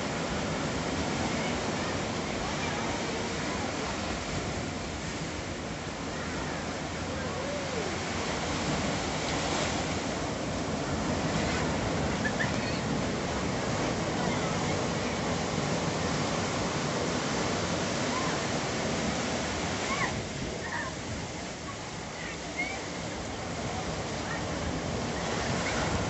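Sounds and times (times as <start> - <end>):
ocean surf breaking on shore: 0.0 - 26.0.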